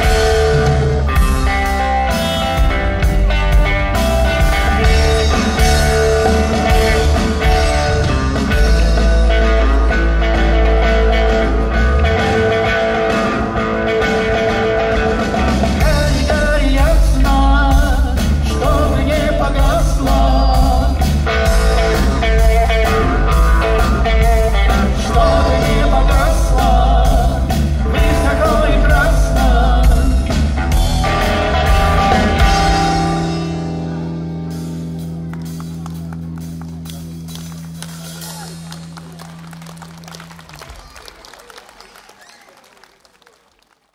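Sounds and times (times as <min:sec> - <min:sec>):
drum kit: 0:00.0 - 0:39.6
electric bass: 0:00.0 - 0:40.2
electric guitar: 0:00.0 - 0:41.1.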